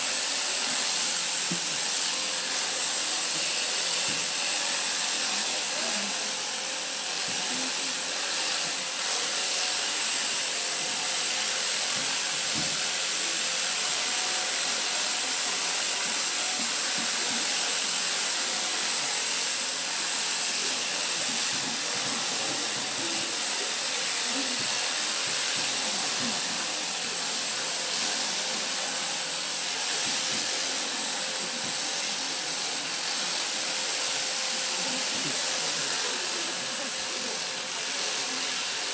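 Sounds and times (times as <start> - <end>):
electric sheep shears buzzing: 0.0 - 38.9.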